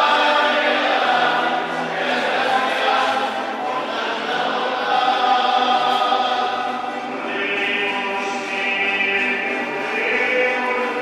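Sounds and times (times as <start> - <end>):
choir singing long notes: 0.0 - 11.0.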